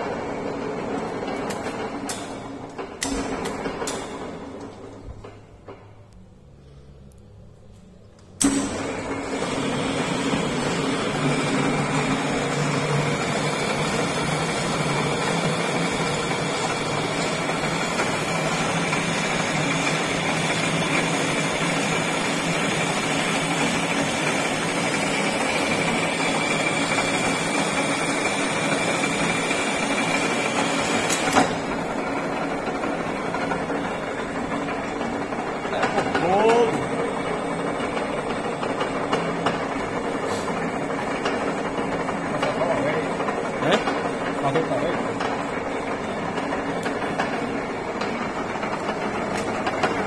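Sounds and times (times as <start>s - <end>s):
metal lathe running: 8.4s - 50.0s.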